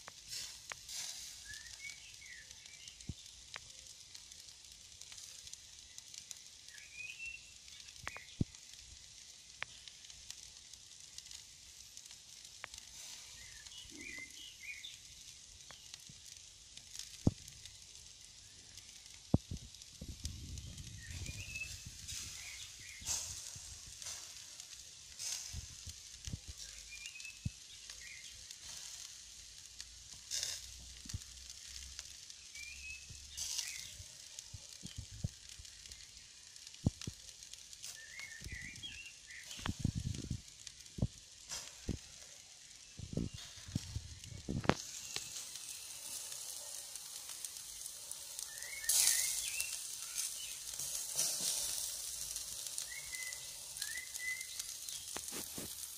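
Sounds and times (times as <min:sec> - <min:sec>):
crackles and pops: 0:00.0 - 0:55.9
meat sizzling on charcoal grill: 0:00.0 - 0:55.9.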